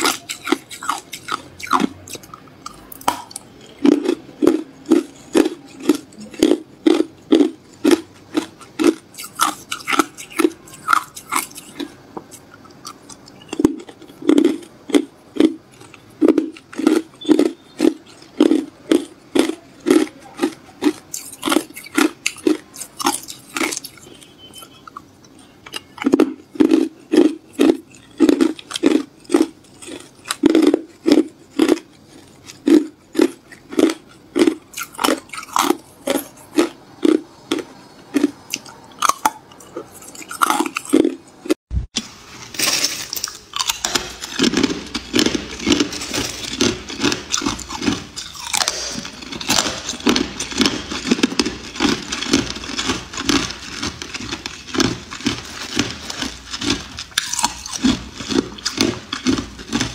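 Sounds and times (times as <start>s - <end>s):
ice cubes crunching: 0.0s - 41.6s, 42.5s - 59.9s.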